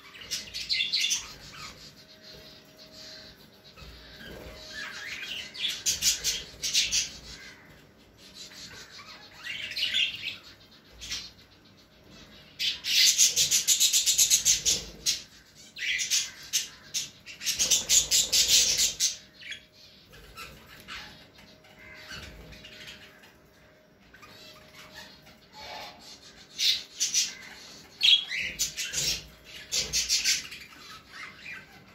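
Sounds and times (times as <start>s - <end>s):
budgies and cockatiels chirping: 0.0s - 31.9s
fast rattling bird chatter: 0.0s - 31.9s.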